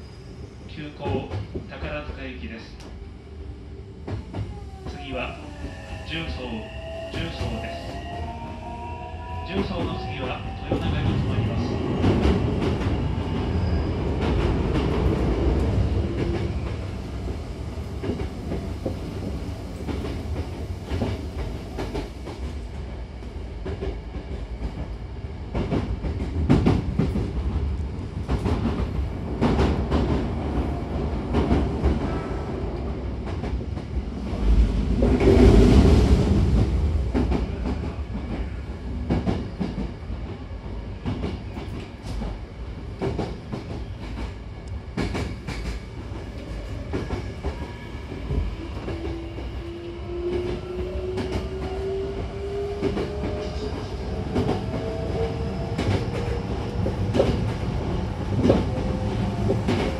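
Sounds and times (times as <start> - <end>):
train rumble: 0.7 - 59.9.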